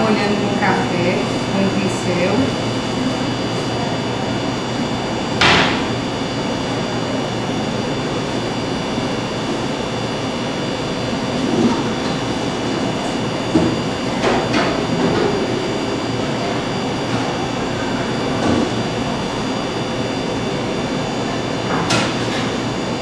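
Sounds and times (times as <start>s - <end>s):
kitchen machine hum and hiss: 0.0s - 23.0s.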